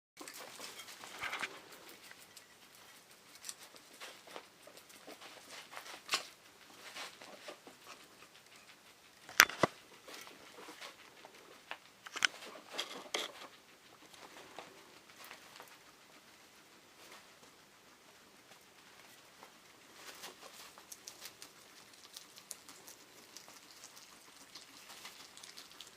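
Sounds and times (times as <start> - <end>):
guinea pigs rummaging: 0.2 - 25.9.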